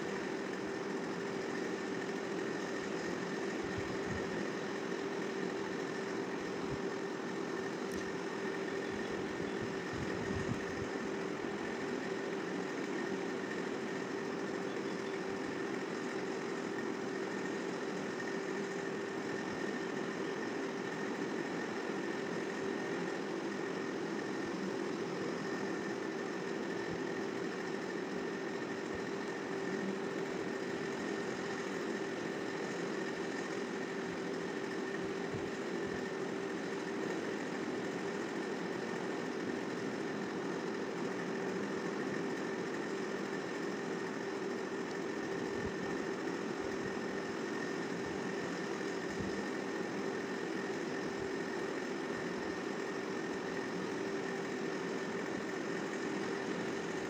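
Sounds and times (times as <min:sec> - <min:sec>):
motor humming: 0:00.0 - 0:57.0.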